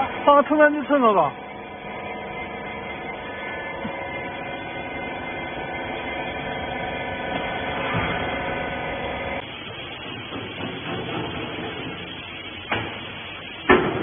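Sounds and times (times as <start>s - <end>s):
hydraulic power unit humming: 0.0s - 14.0s.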